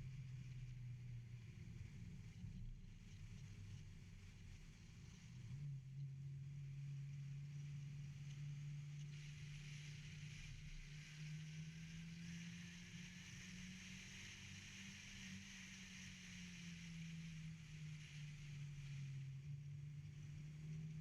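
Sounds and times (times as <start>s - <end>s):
car engine droning: 0.0s - 21.0s
wind or tyre hiss: 0.1s - 21.0s.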